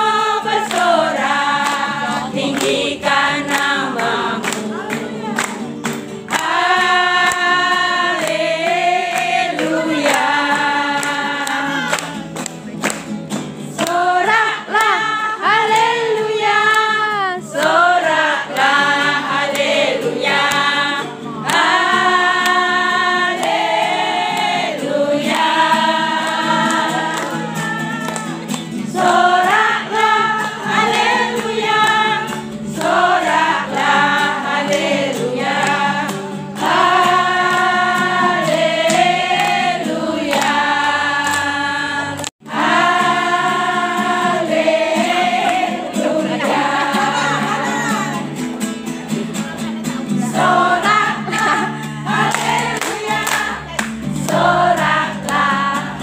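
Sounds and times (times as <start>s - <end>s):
group of voices singing: 0.0s - 12.9s, 13.6s - 48.5s, 49.5s - 56.0s.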